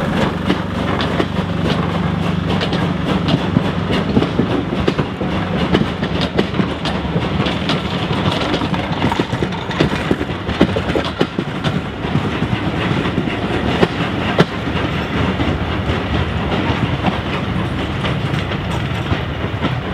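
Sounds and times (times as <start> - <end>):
train rumble: 0.0 - 19.9
train wheels clattering over rail joints: 0.0 - 19.9.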